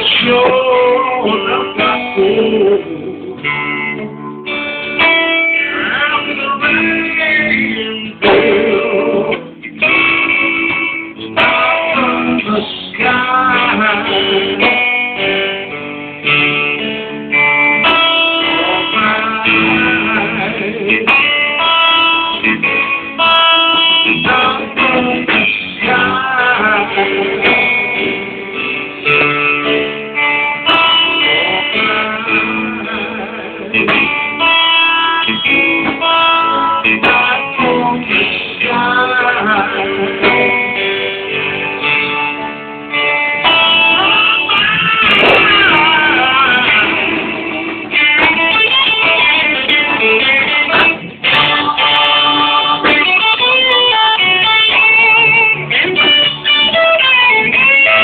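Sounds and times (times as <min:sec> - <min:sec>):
bending electric guitar notes: 0:00.0 - 0:58.0
live blues band: 0:00.0 - 0:58.0.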